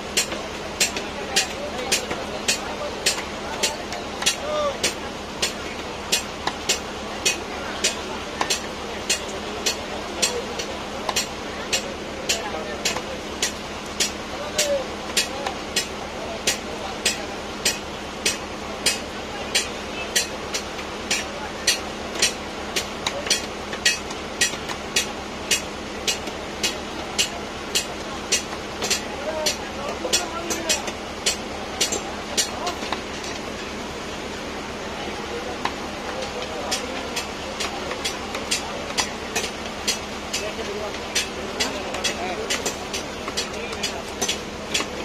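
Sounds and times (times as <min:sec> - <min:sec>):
market hum: 0:00.0 - 0:45.0.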